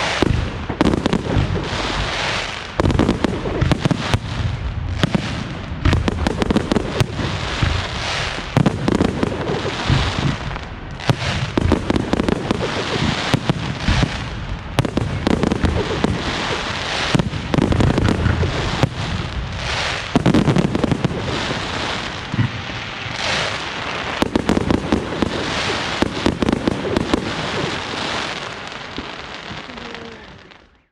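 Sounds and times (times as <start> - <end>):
fireworks bangs and crackling: 0.0 - 30.9.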